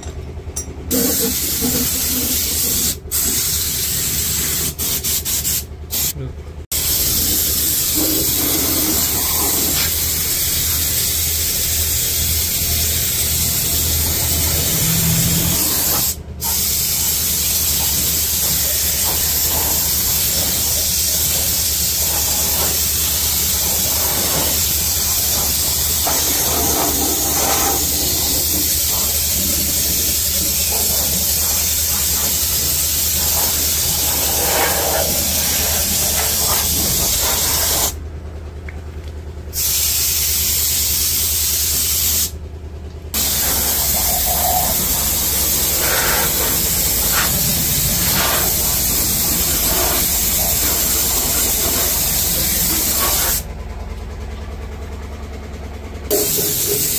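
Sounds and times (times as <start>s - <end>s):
spray gun hissing: 0.9s - 38.0s, 39.6s - 42.3s, 43.2s - 53.4s, 56.1s - 56.9s.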